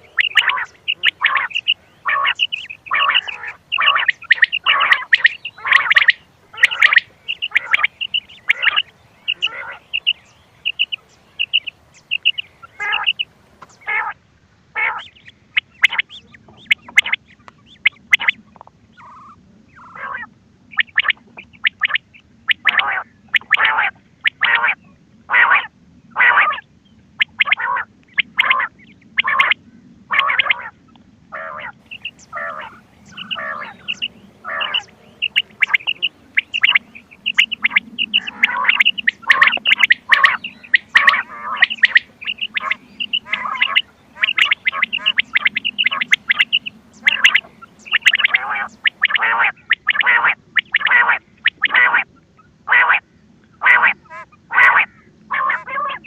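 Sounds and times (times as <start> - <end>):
faint steady hum: 0.0 - 56.0
quail calling: 0.0 - 56.0.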